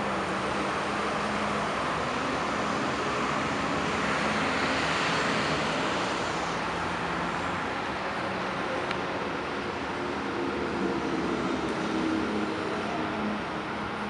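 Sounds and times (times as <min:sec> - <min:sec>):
bus passing close: 0:00.0 - 0:14.0
city traffic noise: 0:00.0 - 0:14.0.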